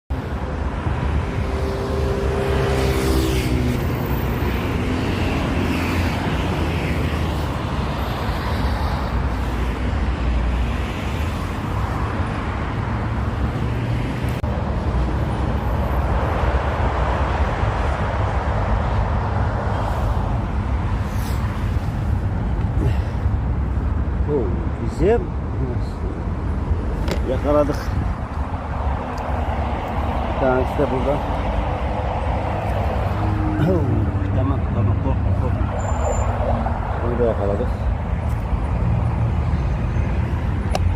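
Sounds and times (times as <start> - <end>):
road traffic rumble: 0.1 - 40.9.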